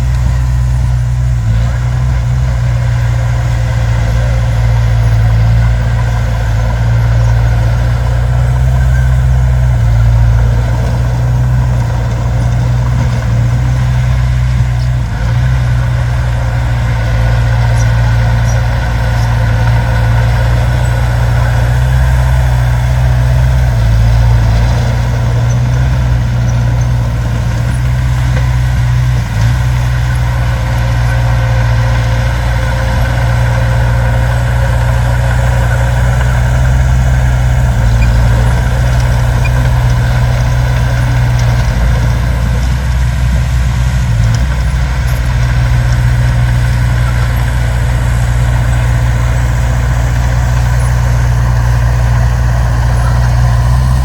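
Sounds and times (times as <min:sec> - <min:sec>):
heavy diesel machinery drone: 0:00.0 - 0:54.0.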